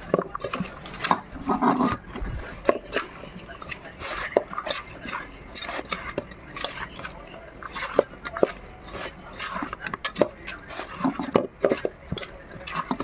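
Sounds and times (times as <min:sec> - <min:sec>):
soft scrapes against pot: 0:00.0 - 0:13.0.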